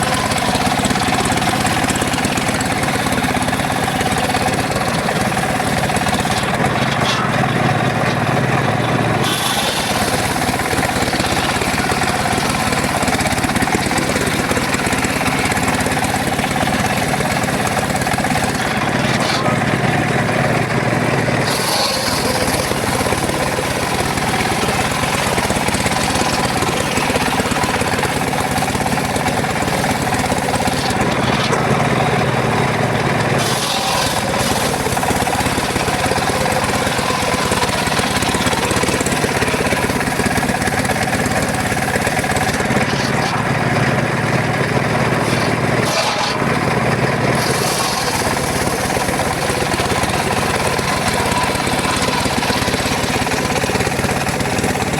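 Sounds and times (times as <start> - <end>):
circular sawmill sawing logs: 0.0 - 54.9.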